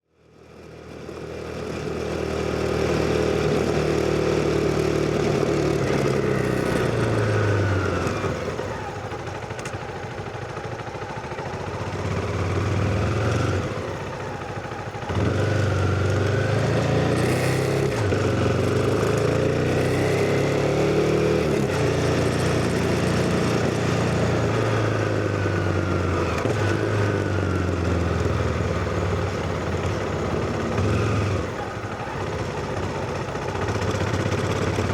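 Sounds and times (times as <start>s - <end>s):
motorcycle engine revving through gears: 0.3s - 34.9s.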